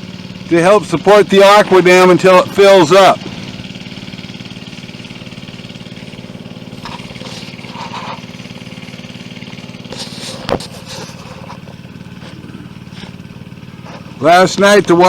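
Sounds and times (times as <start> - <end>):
engine-driven water pump running: 0.0 - 15.0.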